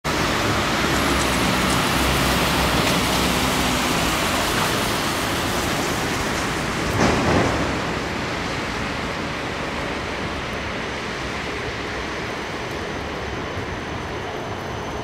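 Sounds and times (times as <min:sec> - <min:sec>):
engine hum of passing vehicles: 0:00.0 - 0:15.0
tyres hissing on wet road: 0:00.1 - 0:15.0.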